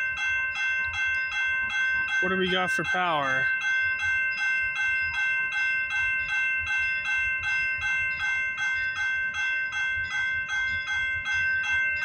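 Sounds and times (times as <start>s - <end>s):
level crossing bell ringing: 0.0s - 12.0s.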